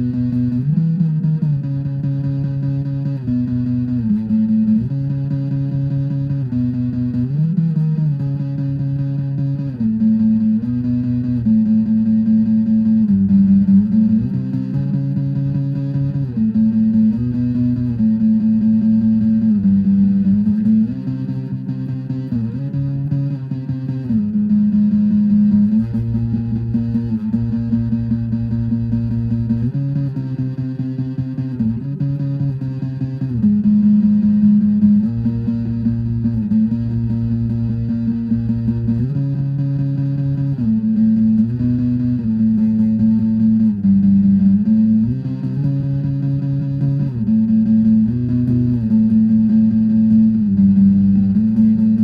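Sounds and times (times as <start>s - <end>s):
bass line: 0.0s - 52.0s
guitar-led instrumental music: 0.0s - 52.0s.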